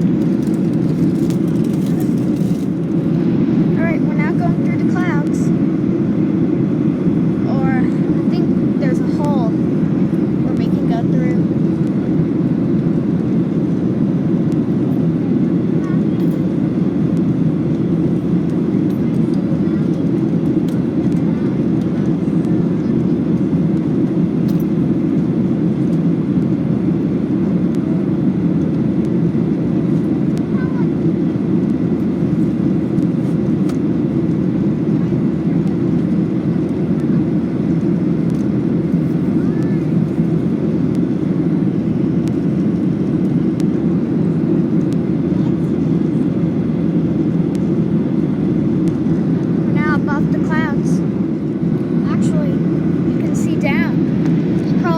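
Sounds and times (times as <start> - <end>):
jet airliner cabin noise: 0.0 - 54.9.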